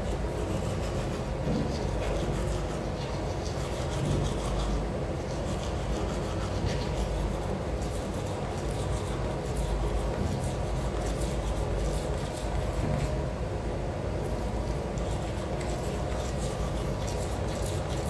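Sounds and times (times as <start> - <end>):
toothbrush scrubbing teeth: 0.0 - 13.3, 14.2 - 18.0.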